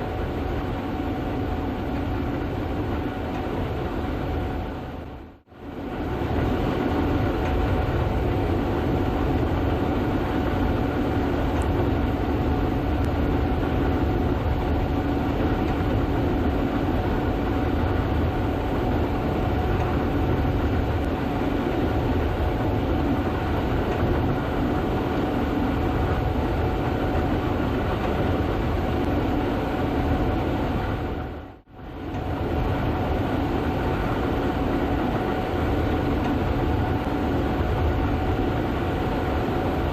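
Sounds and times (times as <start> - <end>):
combine harvester rumbling: 0.0 - 39.9.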